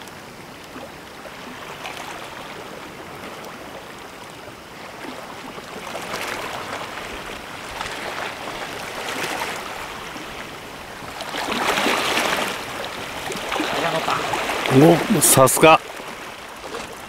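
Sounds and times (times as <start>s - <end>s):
waves lapping at shore: 0.0s - 17.0s.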